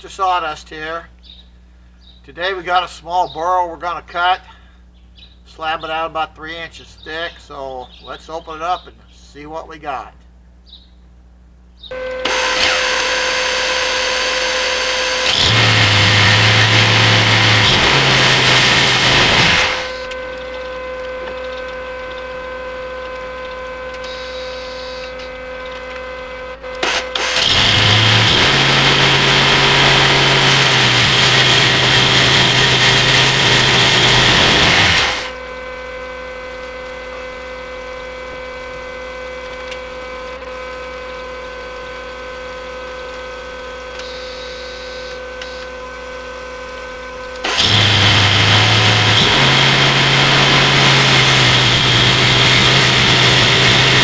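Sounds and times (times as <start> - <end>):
band sawmill humming: 0.0 - 54.0.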